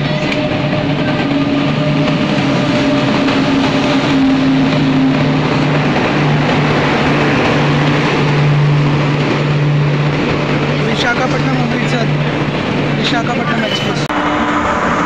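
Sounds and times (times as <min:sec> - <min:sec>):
train wheels rushing on rail: 0:00.0 - 0:15.0.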